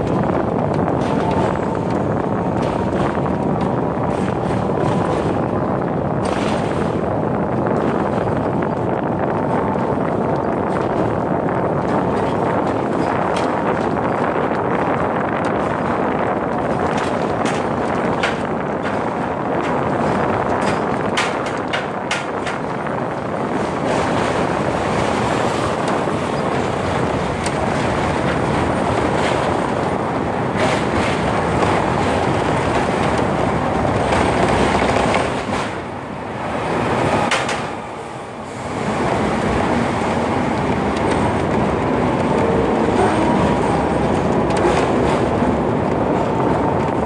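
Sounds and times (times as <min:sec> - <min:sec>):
tram wheels rumbling on rails: 0:00.0 - 0:47.0.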